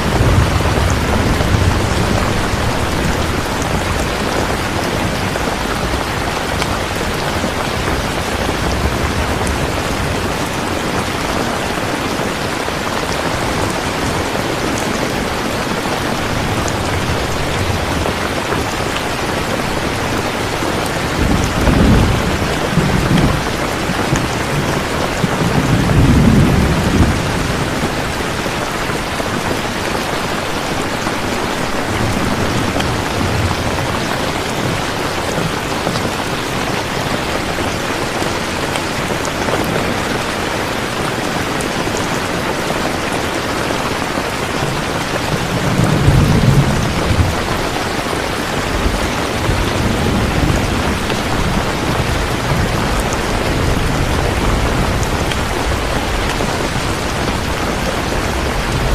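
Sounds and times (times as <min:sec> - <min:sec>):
thunder rumbling: 0:00.0 - 0:42.7, 0:43.9 - 0:58.9
heavy rain: 0:00.0 - 0:58.9.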